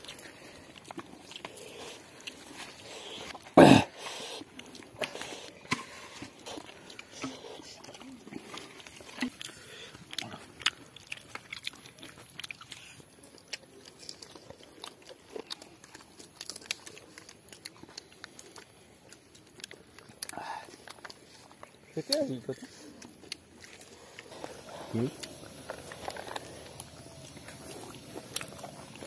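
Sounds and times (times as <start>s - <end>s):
people chewing and crunching: 0.0s - 29.0s.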